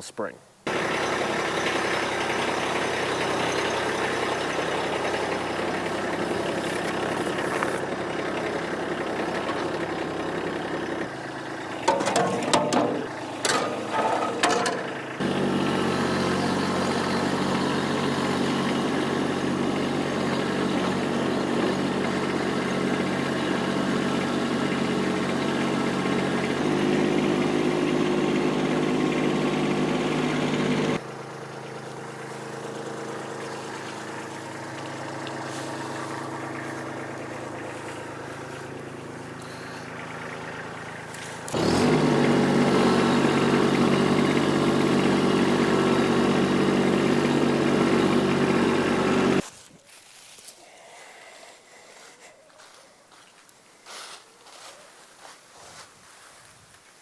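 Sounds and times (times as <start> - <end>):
vehicle engine idling: 0.7 - 49.4.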